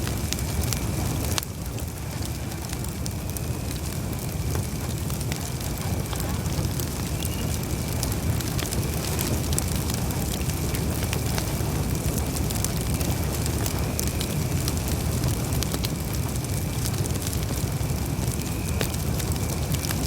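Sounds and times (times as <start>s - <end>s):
campfire flames rushing: 0.0s - 20.0s
wood crackling and popping: 0.0s - 20.0s.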